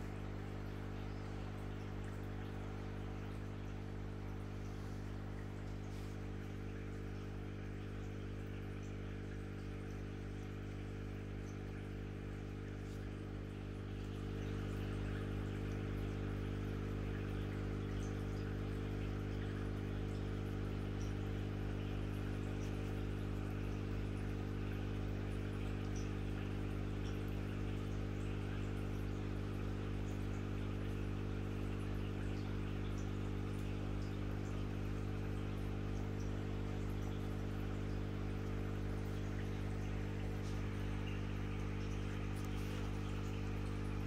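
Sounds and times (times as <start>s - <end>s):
low machine hum: 0.0s - 44.0s.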